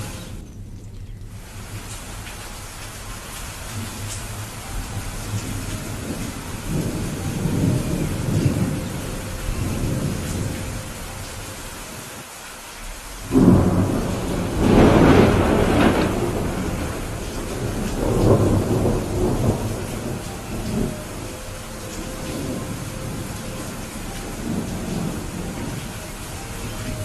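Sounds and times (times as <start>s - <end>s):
thunder rumbling: 0.0s - 12.2s, 12.8s - 27.0s
steady rain: 0.0s - 27.0s.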